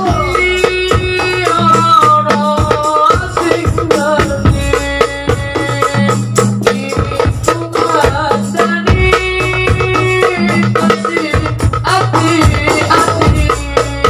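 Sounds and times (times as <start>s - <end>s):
darbuka fast rhythm: 0.0s - 14.0s
frame drums: 0.0s - 14.0s.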